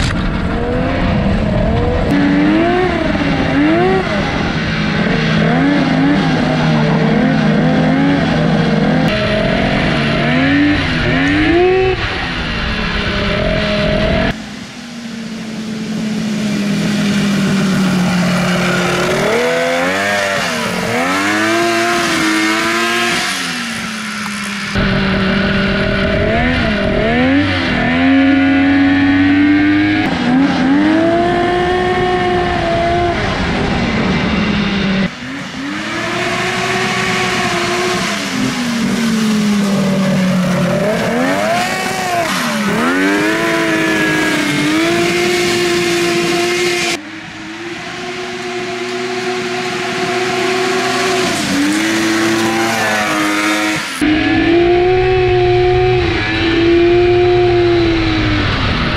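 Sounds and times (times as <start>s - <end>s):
snowmobile engine revving: 0.0s - 58.9s.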